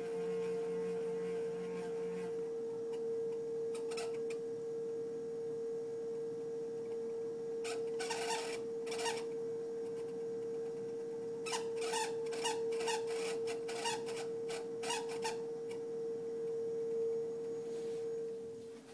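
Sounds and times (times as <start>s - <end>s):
refrigerator humming: 0.0s - 18.9s.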